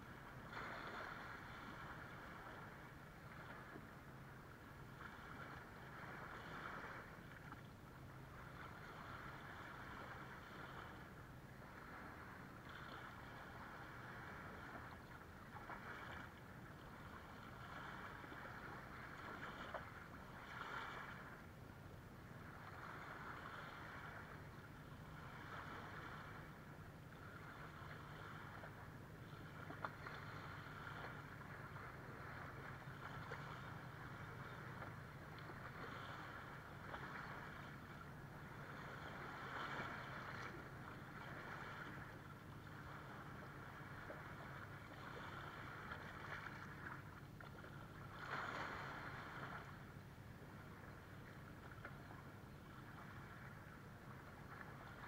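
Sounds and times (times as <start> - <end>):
steady low hum: 0.0 - 55.0
waves lapping on shore: 0.0 - 55.0.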